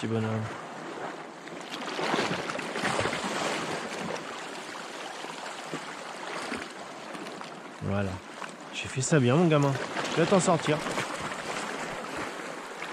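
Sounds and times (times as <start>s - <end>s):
waves splashing against rocks: 0.8s - 12.9s.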